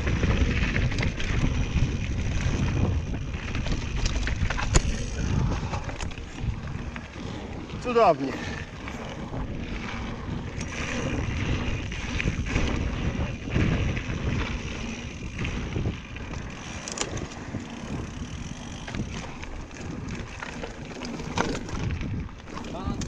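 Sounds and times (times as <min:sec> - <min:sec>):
bike clicks and rattles: 0:00.0 - 0:23.0
tyres rumbling on dirt trail: 0:00.0 - 0:23.0
wind buffeting microphone: 0:00.0 - 0:23.0.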